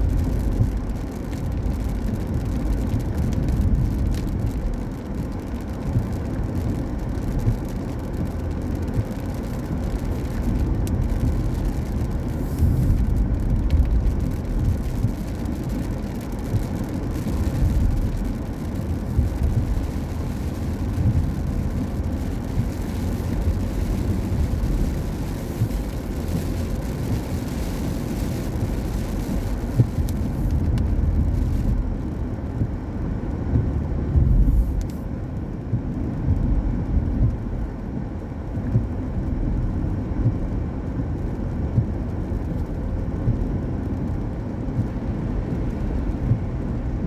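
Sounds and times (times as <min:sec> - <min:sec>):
tyre noise on wet road: 0:00.0 - 0:47.0.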